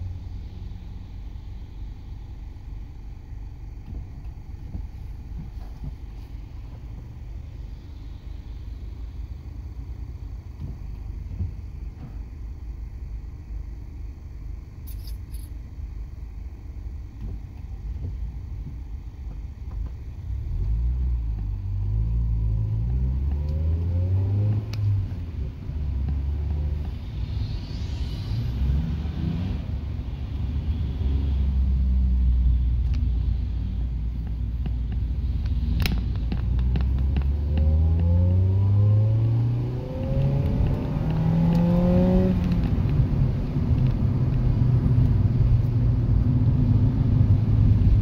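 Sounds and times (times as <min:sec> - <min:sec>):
car engine from inside cabin: 0:00.0 - 0:48.0.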